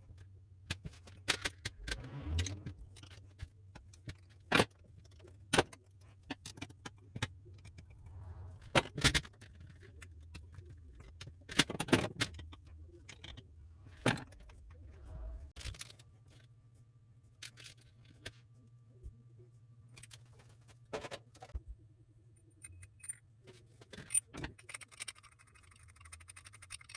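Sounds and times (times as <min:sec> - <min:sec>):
low steady hum: 0:00.0 - 0:26.9.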